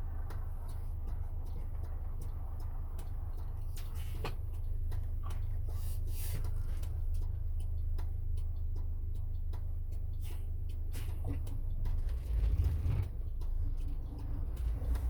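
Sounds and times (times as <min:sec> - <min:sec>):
engine and road drone: 0:00.0 - 0:15.0.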